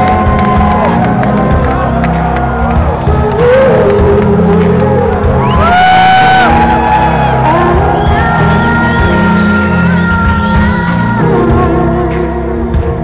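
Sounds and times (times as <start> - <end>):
audience whooping and cheering: 0.0 - 11.6
live band music: 0.0 - 13.0.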